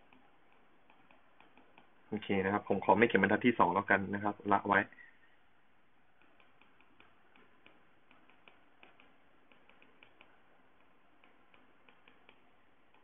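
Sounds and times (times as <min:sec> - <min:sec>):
stylus tapping on glass screen: 0:00.0 - 0:03.2, 0:05.0 - 0:13.0.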